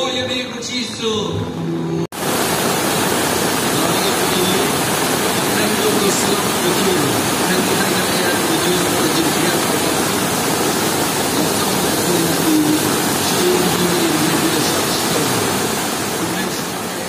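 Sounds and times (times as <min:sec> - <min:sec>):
river rushing over rocks: 0:02.2 - 0:17.0.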